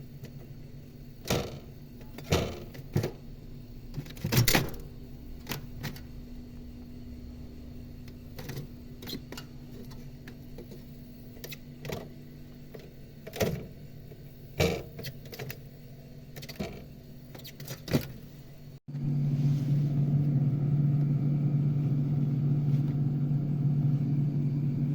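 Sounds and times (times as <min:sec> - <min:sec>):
low steady hum: 0:00.0 - 0:17.4, 0:18.1 - 0:24.9
refrigerator compressor humming: 0:00.0 - 0:24.9.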